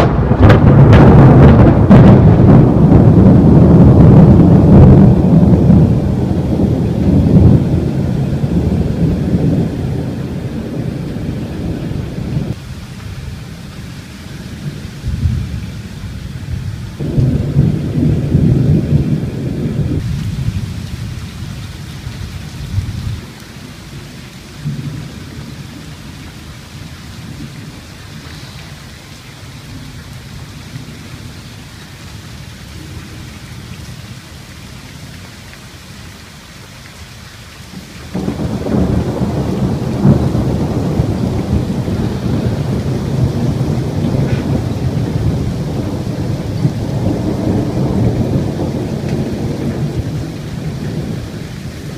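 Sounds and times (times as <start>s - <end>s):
thunder rumbling: 0.0s - 35.0s, 37.7s - 51.9s
steady rain: 0.0s - 51.9s.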